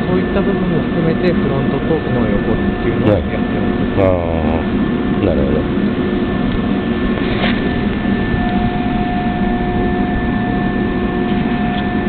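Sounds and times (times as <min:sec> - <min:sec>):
constant machine hums: 0:00.0 - 0:12.0
higher hum: 0:00.0 - 0:12.0
machinery rumble: 0:00.0 - 0:12.0.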